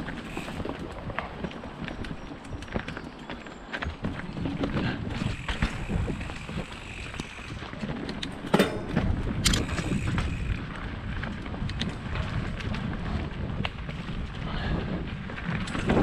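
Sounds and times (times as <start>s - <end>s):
bike rattling and clicking: 0.0s - 16.0s
bike tyres rumbling on dirt: 0.0s - 16.0s.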